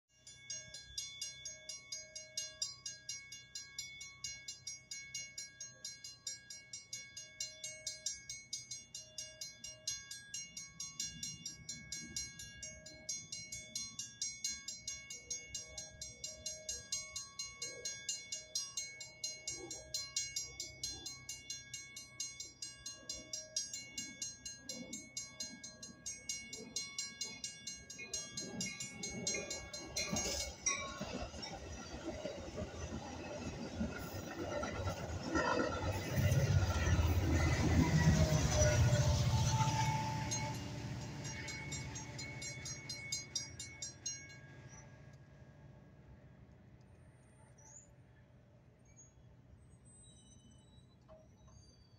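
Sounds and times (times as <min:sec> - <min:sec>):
railroad crossing bell ringing: 0:00.1 - 0:45.4
low rumble of approaching train: 0:00.2 - 0:51.9.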